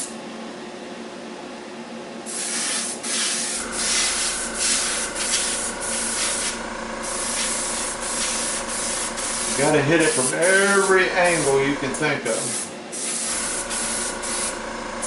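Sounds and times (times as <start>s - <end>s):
airbrush spraying hiss: 2.3s - 14.6s.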